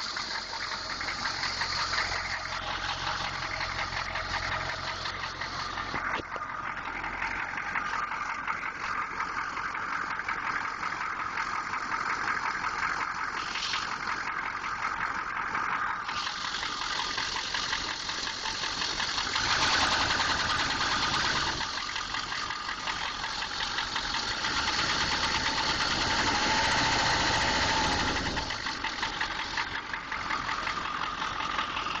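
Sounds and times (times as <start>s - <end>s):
engine running with rapid knocking: 0.0s - 32.0s.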